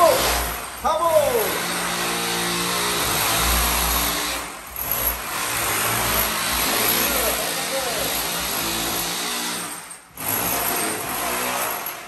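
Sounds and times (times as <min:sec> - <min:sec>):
power tool cutting into wall: 0:00.0 - 0:12.0.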